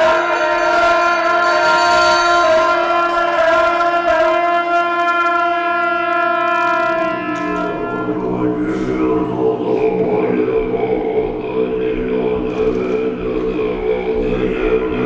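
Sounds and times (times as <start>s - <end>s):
deep-voiced monks chanting: 0.0s - 15.0s
reedy wind instrument tone: 0.0s - 15.0s.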